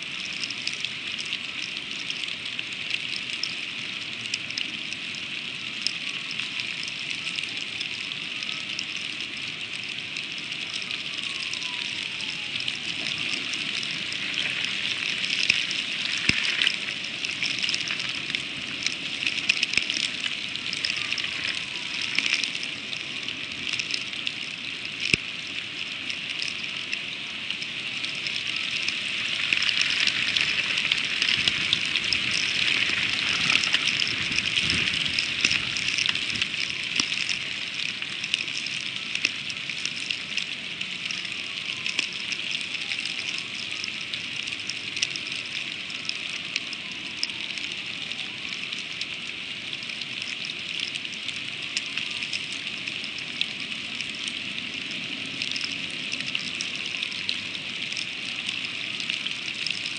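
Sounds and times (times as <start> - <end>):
freezing rain pattering: 0.0 - 59.9.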